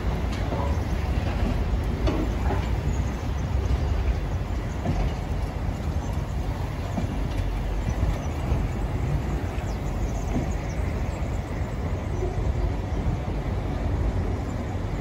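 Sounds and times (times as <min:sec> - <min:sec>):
freight wagons rumbling on rails: 0:00.0 - 0:15.0.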